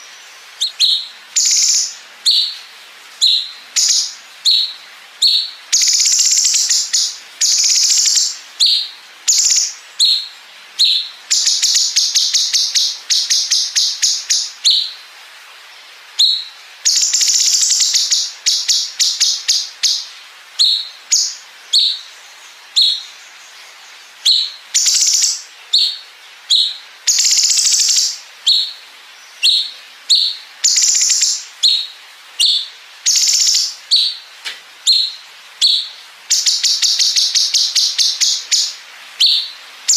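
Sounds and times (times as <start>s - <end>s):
bird singing with rapid rattles: 0.0s - 2.6s, 3.2s - 15.0s, 16.2s - 34.2s, 34.8s - 39.9s.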